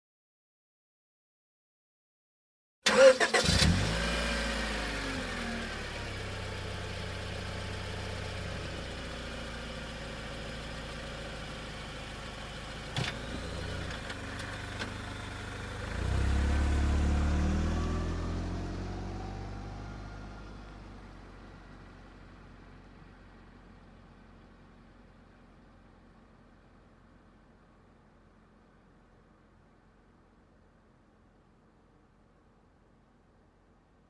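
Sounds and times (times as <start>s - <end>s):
car engine idling and revving: 2.9s - 33.5s.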